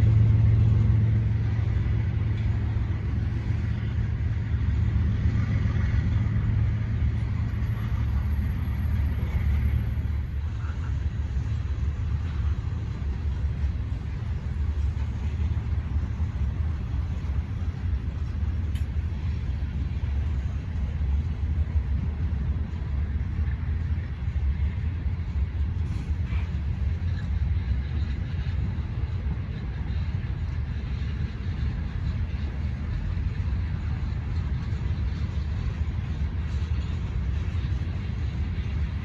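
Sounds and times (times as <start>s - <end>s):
freight train rumbling: 0.0s - 39.0s.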